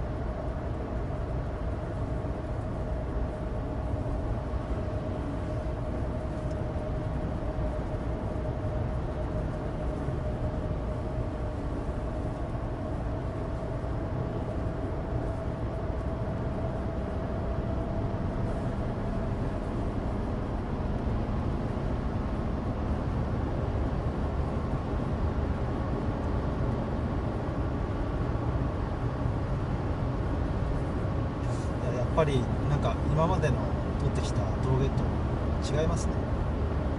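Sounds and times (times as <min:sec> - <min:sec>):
car engine: 0:00.0 - 0:36.9
road and tyre rumble: 0:00.0 - 0:36.9.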